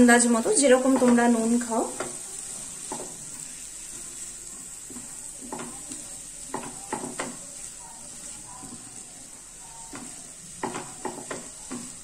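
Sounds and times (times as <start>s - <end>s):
vegetables sizzling in a frying pan: 0.0s - 12.0s
spatula scraping and knocking pan: 0.2s - 12.0s.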